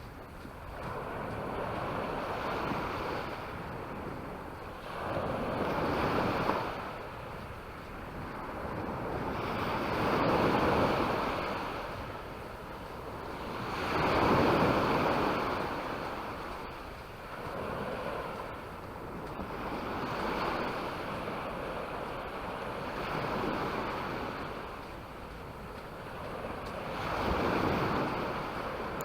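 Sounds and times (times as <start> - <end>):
waves breaking on a beach: 0.0 - 29.0.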